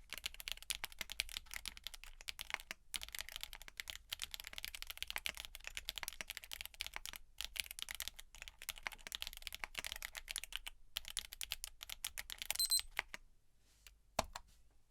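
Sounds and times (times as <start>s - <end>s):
clacky keyboard keystrokes: 0.0s - 13.2s.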